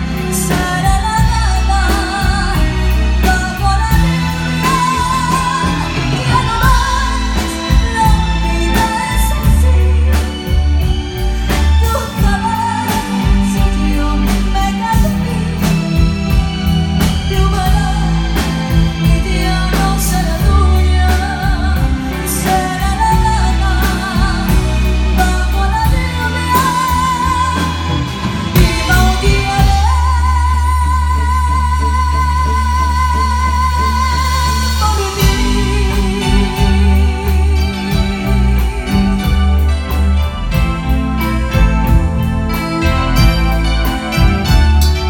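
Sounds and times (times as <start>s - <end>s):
woman singing into microphone: 0.0s - 40.6s
rock band playing: 0.0s - 45.0s.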